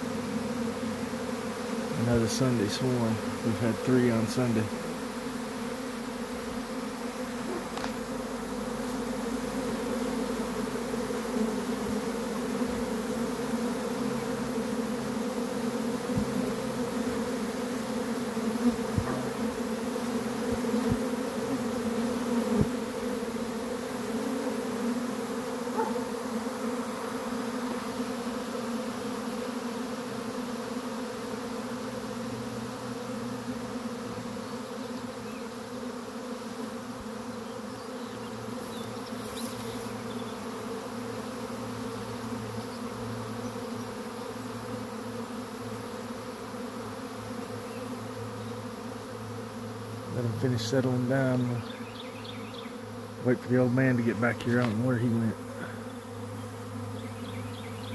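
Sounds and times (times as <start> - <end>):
bee swarm buzzing: 0.0 - 57.9.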